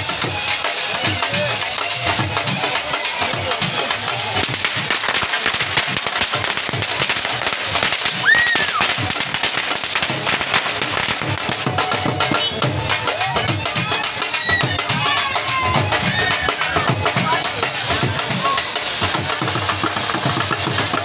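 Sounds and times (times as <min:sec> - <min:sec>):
firecrackers popping: 0:00.0 - 0:21.0
music: 0:00.0 - 0:21.0.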